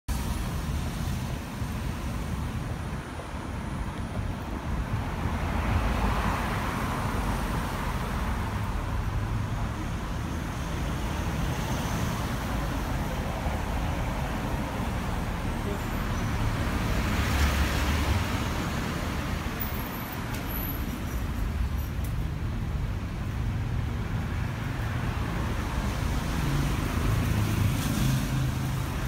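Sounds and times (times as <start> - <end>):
cars driving past: 0.1 - 29.0.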